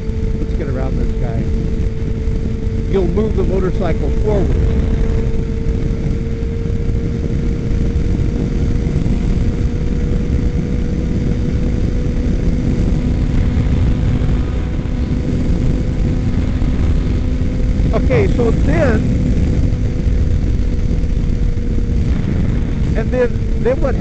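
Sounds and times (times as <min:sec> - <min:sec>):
motorcycle engine cruising: 0:00.0 - 0:24.0
wind buffeting microphone: 0:00.0 - 0:24.0.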